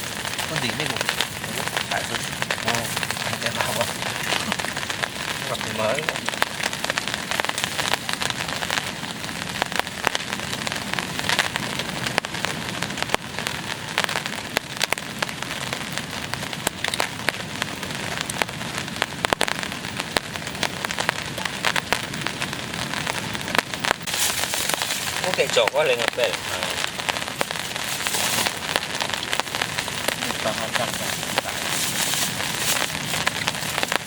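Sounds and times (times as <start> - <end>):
raindrops hitting a surface: 0.0 - 34.0
steady rain falling: 0.0 - 34.0.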